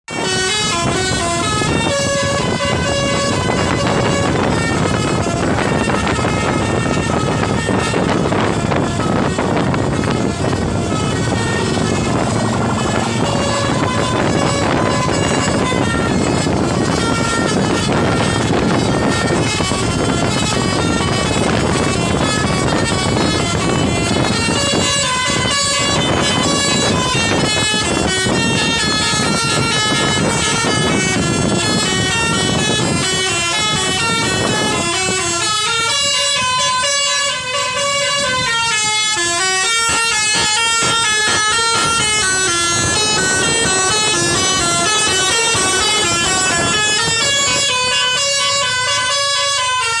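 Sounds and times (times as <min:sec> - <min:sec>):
multi-trumpet air horn tune: 0:00.1 - 0:50.0.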